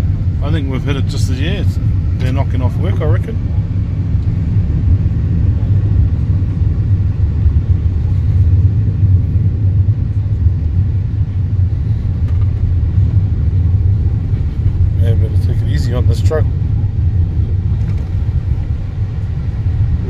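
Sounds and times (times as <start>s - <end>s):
tyres rumbling on dirt road: 0.0s - 20.0s.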